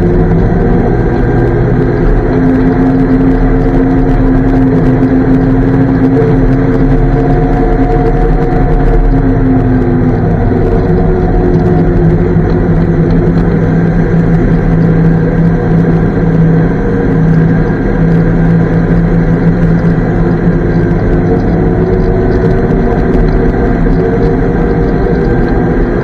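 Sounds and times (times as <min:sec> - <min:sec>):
armoured car engine running: 0:00.0 - 0:26.0.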